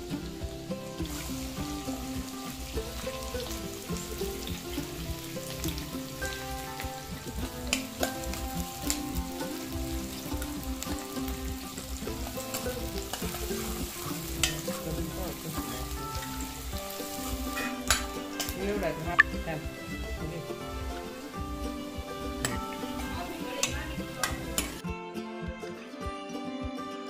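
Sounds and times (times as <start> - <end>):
onions sizzling in hot oil: 0.0 - 24.8
steel ladle scraping a pan: 0.8 - 24.8.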